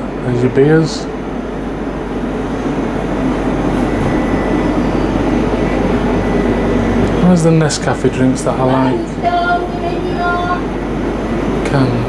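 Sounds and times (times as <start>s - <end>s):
air conditioning hum: 0.0s - 12.0s
faint high whine: 0.0s - 12.0s.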